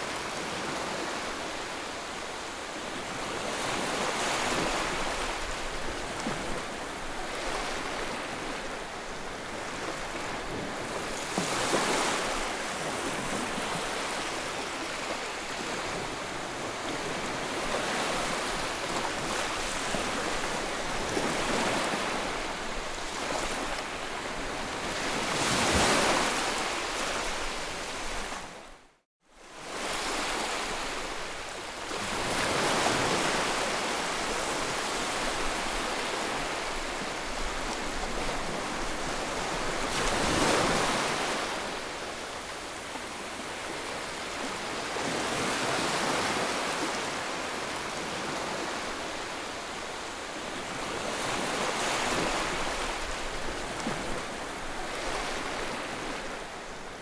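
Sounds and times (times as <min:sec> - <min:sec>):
waves breaking: 0:00.0 - 0:28.6, 0:29.6 - 0:57.0.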